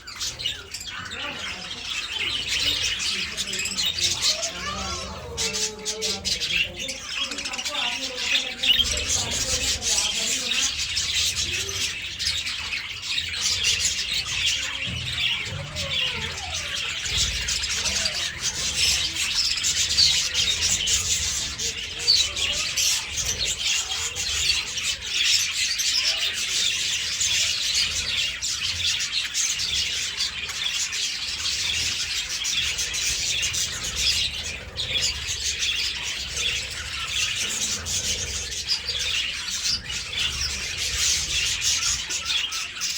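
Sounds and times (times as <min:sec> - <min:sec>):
budgerigars chattering and chirping: 0:00.0 - 0:42.9.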